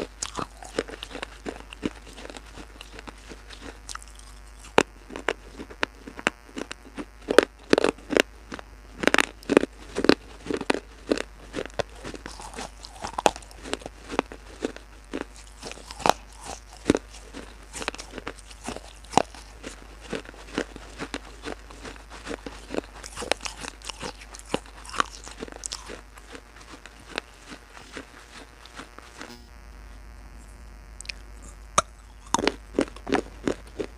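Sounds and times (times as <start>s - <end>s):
crunchy chewing of clay pieces: 0.0s - 29.4s, 30.0s - 33.9s.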